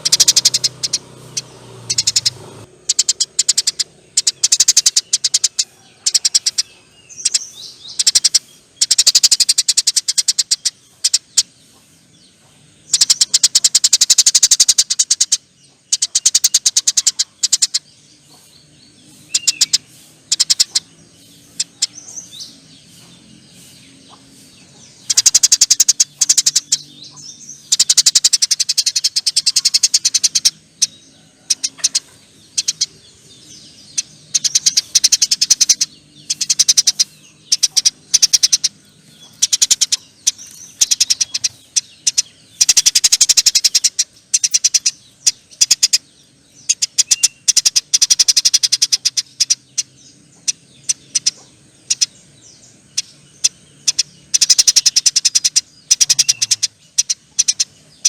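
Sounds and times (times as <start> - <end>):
sparrow chirping: 0.0 - 58.0.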